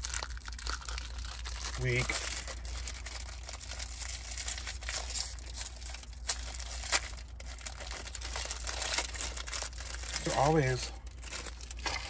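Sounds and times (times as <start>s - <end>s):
cellophane wrapper crinkling: 0.0s - 12.0s.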